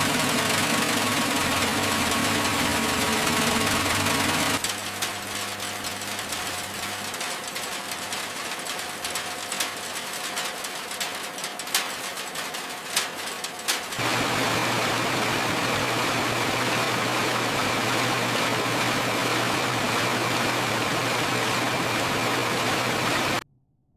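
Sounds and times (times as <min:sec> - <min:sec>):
machine hum with high whine: 0:00.0 - 0:23.4
machinery clatter: 0:00.0 - 0:23.4.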